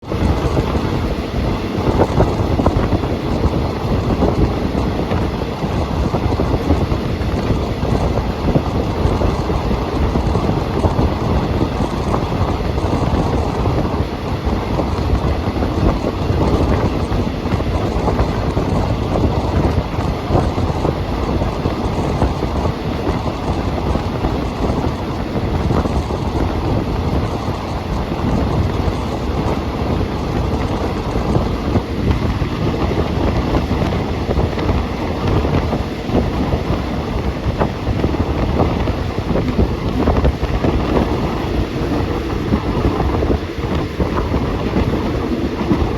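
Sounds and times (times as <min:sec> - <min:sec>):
train carriage rattling: 0:00.0 - 0:45.9
train wheels on rails: 0:00.0 - 0:45.9.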